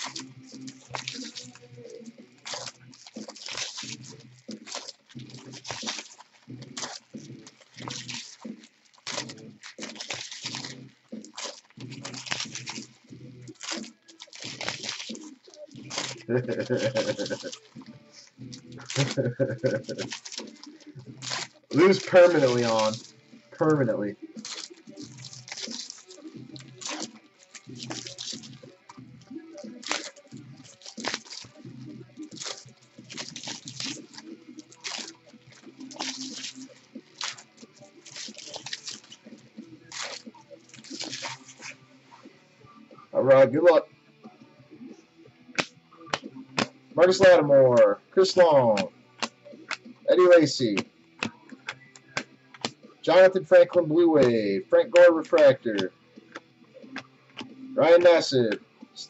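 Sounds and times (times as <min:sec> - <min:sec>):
foil wrappers tearing and crinkling: 0:00.0 - 0:41.8, 0:45.6 - 0:59.0.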